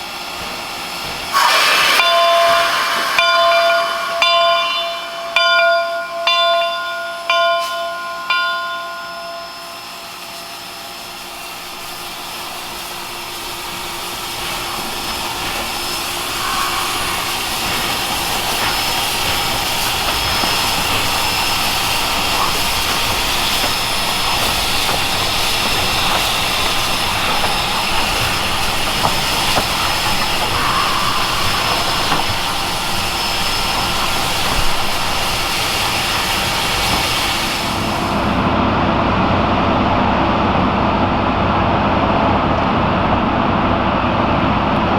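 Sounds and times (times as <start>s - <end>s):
steam locomotive hissing: 0.0s - 44.6s.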